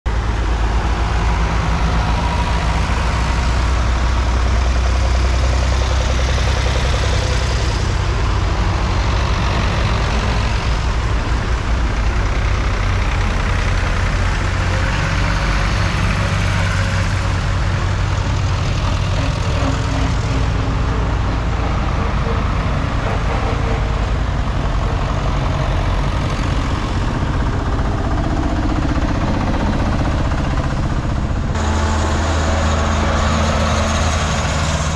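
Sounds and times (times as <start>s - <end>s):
tractors driving past: 0.1s - 34.9s.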